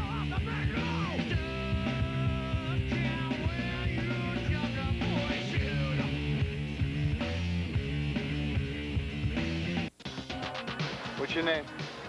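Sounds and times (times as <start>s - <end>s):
rock music with drums: 0.0s - 12.0s.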